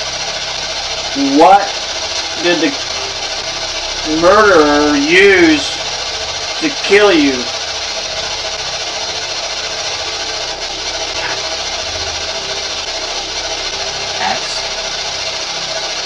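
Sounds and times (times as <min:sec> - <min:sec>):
static hiss: 0:00.0 - 0:16.0.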